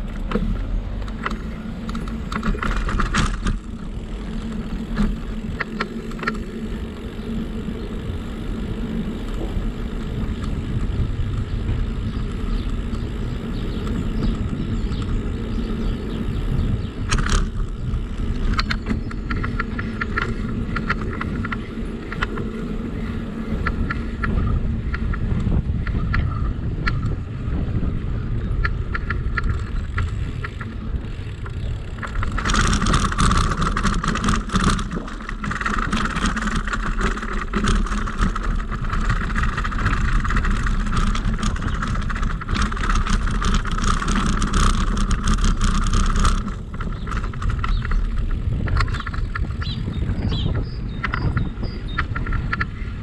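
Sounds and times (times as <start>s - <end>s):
bicycle rolling rumble: 0.0s - 53.0s
bike rattling clicks: 0.0s - 53.0s
wind noise: 0.0s - 53.0s.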